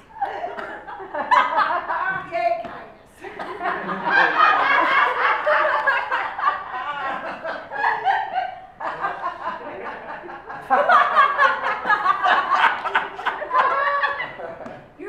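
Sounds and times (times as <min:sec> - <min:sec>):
people laughing: 0:00.0 - 0:02.5, 0:03.2 - 0:15.0.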